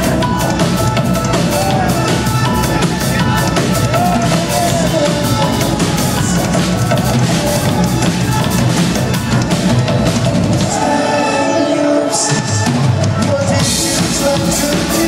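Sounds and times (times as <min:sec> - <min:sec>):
electronic dance band playing: 0:00.0 - 0:15.0.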